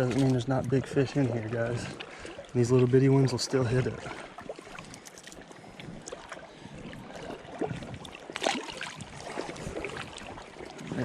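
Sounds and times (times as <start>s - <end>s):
creek water running and splashing: 0.0s - 11.0s.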